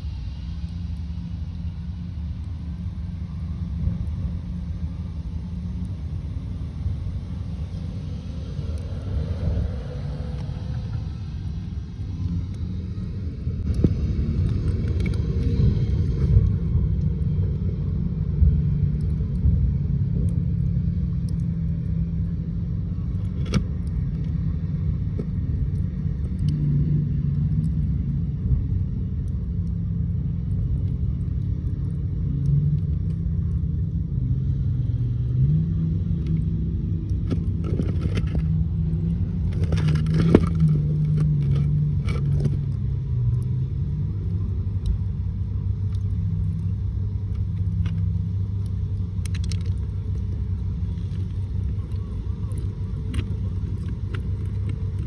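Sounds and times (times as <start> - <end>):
low steady rumble: 0.0 - 55.0.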